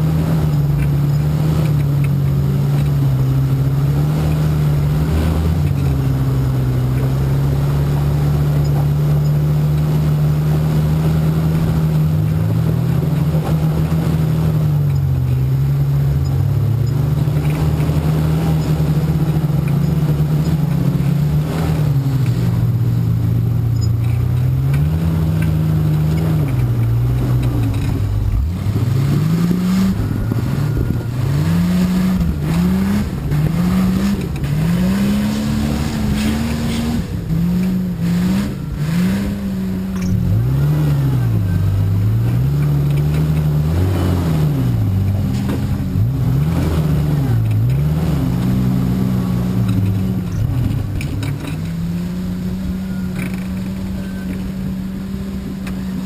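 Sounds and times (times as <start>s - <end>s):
off-road engine revving: 0.0s - 56.0s.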